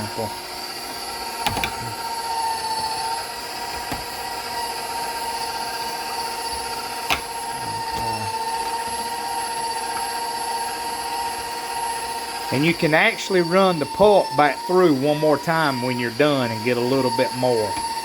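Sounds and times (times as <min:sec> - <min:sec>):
stand mixer motor whining: 0:00.0 - 0:18.0.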